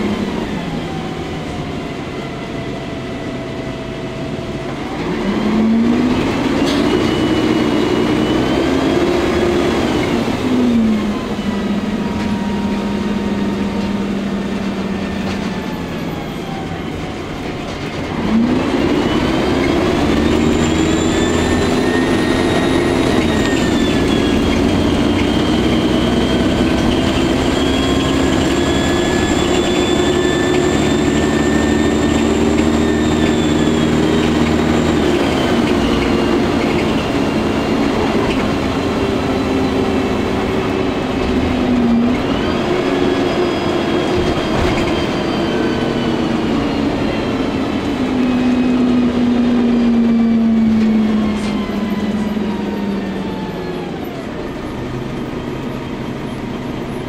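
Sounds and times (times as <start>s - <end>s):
bus engine and transmission whining: 0.0s - 57.0s.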